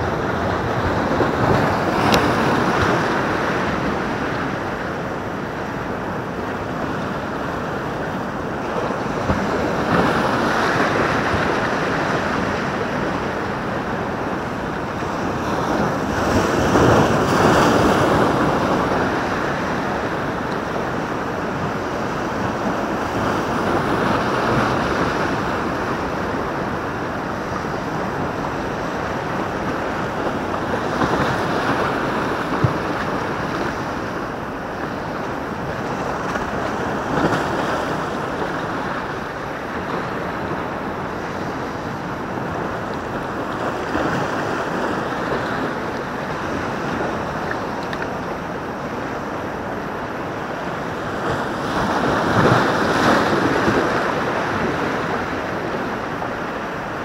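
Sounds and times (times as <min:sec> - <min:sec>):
waves breaking over rocks: 0:00.0 - 0:57.0.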